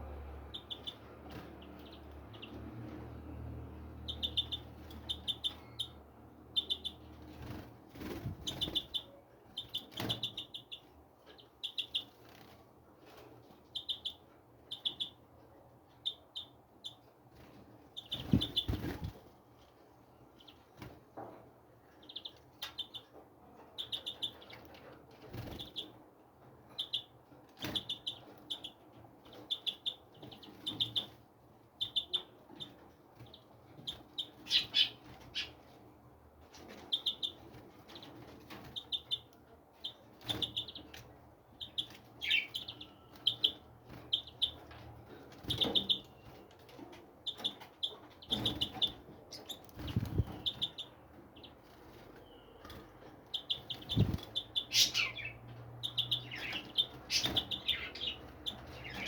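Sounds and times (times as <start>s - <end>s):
small birds chirping: 0.0s - 21.0s, 21.7s - 59.0s.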